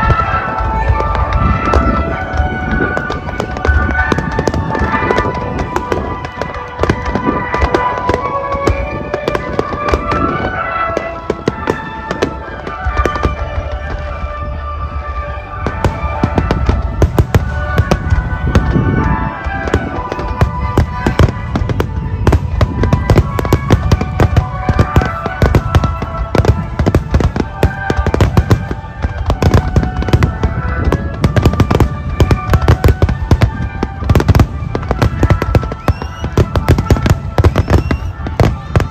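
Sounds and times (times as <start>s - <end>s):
firework crackling: 0.0s - 38.9s
music: 0.0s - 38.9s.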